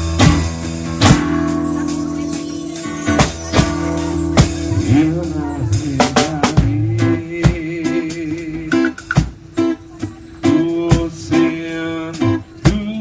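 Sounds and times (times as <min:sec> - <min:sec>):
band music with drums bass and guitar: 0:00.0 - 0:13.0.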